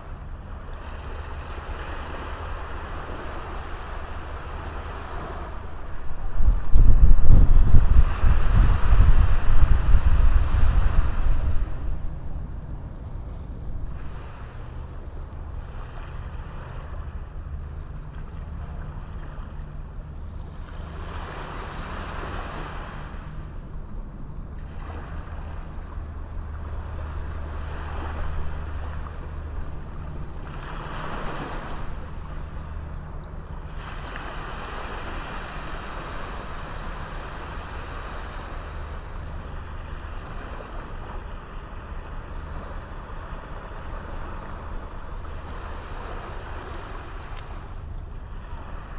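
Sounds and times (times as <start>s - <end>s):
small waves washing onto beach: 0.0s - 48.9s
steady low rumble: 0.0s - 48.9s.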